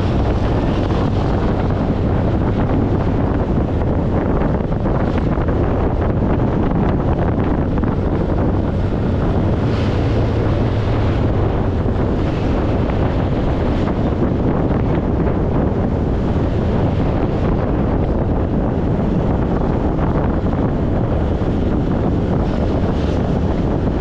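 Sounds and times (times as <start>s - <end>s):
motorcycle engine droning: 0.0s - 24.0s
wind buffeting microphone: 0.0s - 24.0s.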